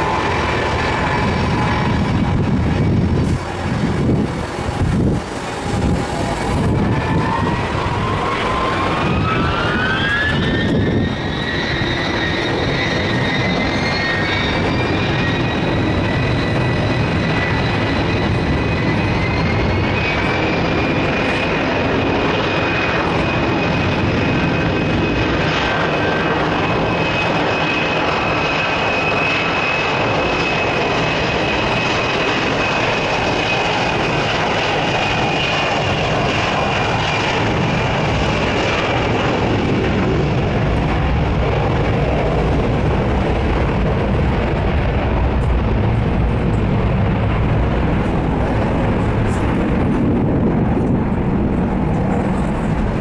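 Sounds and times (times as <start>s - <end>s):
jet engines whining: 0.0s - 53.0s
loud jet engine noise: 0.0s - 53.0s.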